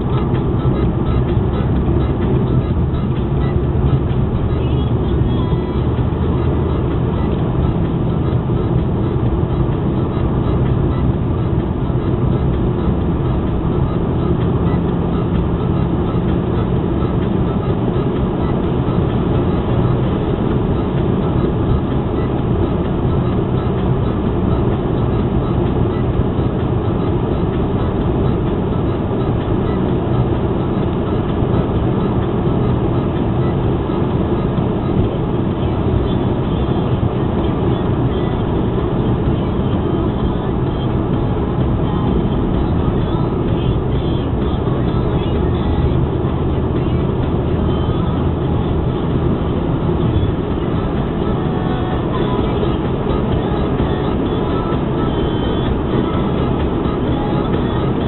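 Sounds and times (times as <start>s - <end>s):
car engine hum: 0.0s - 58.0s
tyre and road noise: 0.0s - 58.0s.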